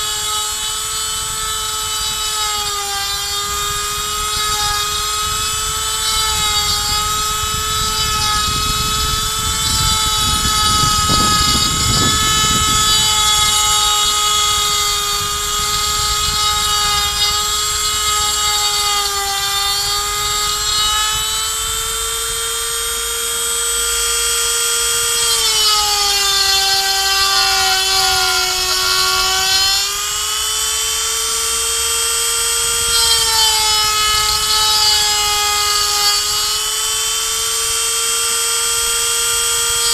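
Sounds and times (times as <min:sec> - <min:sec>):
low rumble of wood cutting: 0:00.0 - 0:39.9
rotary tool whining: 0:00.0 - 0:39.9.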